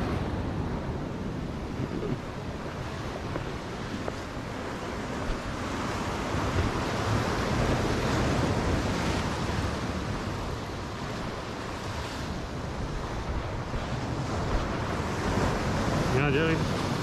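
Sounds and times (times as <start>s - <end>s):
surf breaking over rocks: 0.0s - 17.0s
wind on microphone: 0.0s - 17.0s.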